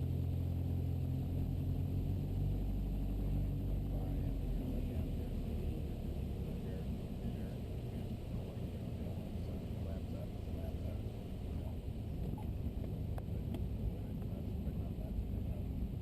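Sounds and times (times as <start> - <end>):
airplane piston engine drone: 2.4 - 16.0.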